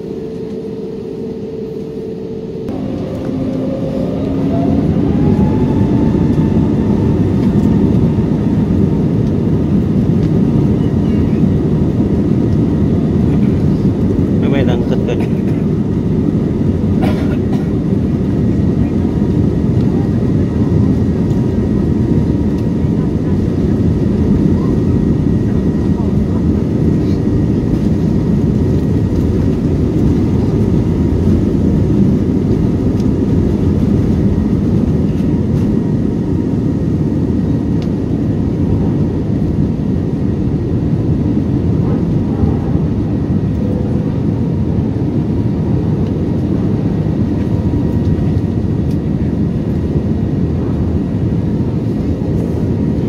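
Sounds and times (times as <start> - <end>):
faint engine whine: 0.0 - 53.0
jet engines roaring: 0.0 - 53.0.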